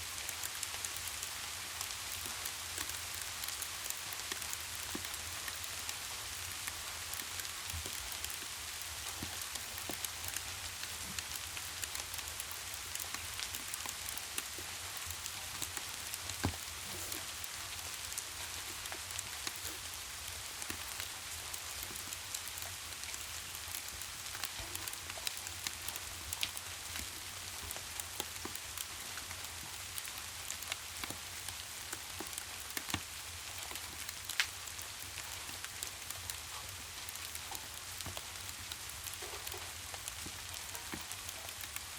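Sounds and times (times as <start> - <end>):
log fire crackling and popping: 0.0 - 41.9
steady rain falling: 0.0 - 41.9.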